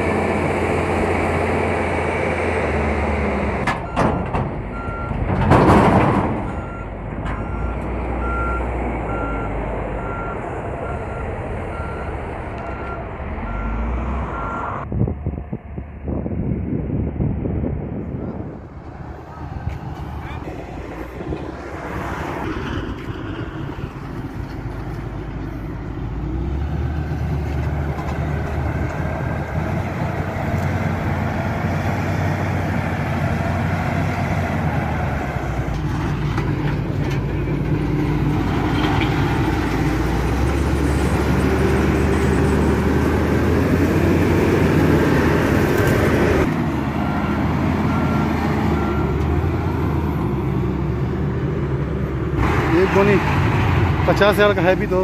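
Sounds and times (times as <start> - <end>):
wheel loader diesel engine: 0.0 - 55.0.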